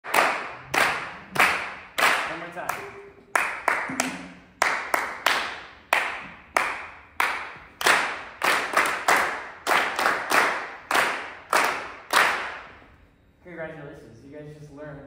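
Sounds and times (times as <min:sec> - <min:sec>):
people clapping in unison: 0:00.0 - 0:12.8.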